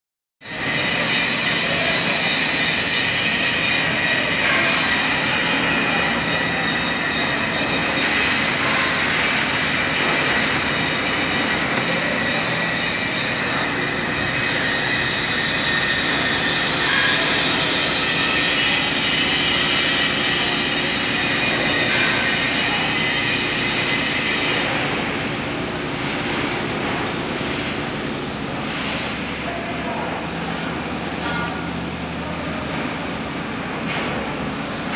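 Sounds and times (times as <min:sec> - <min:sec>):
telehandler engine running: 0:00.8 - 0:34.9.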